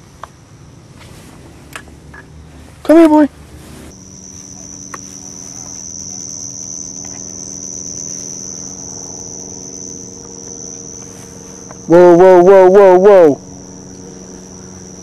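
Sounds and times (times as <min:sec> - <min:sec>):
faint low hum: 0:00.0 - 0:15.0
cricket trilling: 0:02.0 - 0:15.0.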